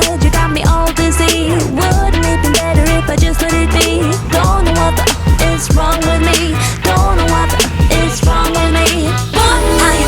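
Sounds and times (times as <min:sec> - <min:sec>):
pop r and b music: 0:00.0 - 0:10.0.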